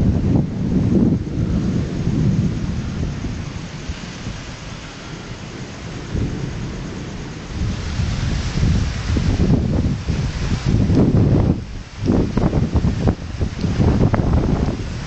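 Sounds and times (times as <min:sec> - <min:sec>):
rain hissing: 0:00.0 - 0:15.0
thunder rumbling: 0:00.0 - 0:15.0.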